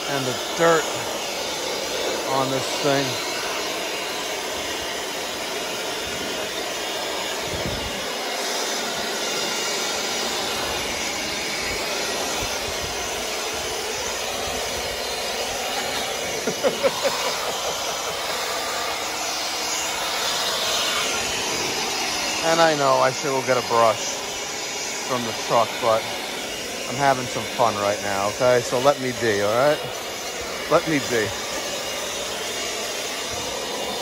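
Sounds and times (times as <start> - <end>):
leaf blower running: 0.0 - 34.0.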